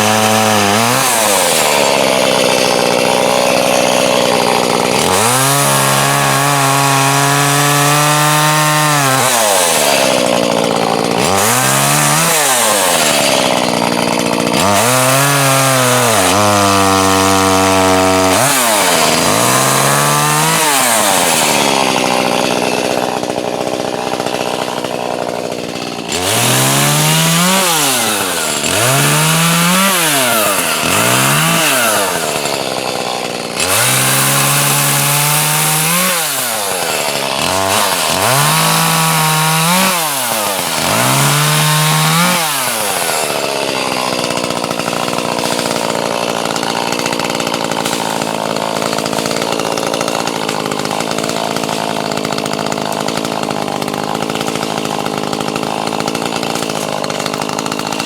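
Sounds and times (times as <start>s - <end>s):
chainsaw cutting wood: 0.0s - 58.0s
chainsaw idling and revving: 0.0s - 58.0s.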